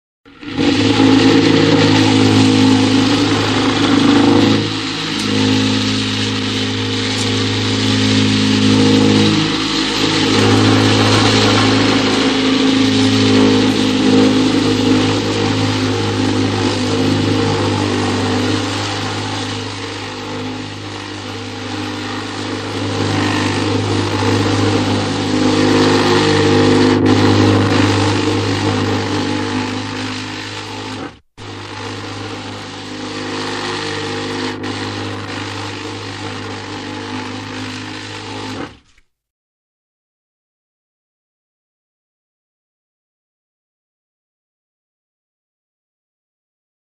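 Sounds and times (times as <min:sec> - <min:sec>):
chainsaw engine running: 0:00.3 - 0:39.0.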